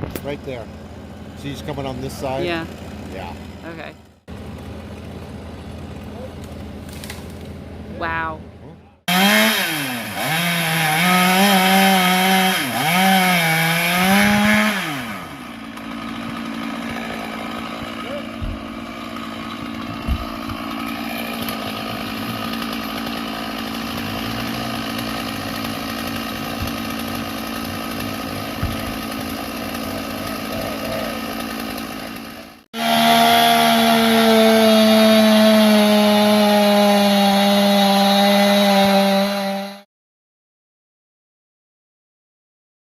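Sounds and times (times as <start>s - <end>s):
chainsaw running at high revs: 0.1s - 7.2s, 9.1s - 39.9s.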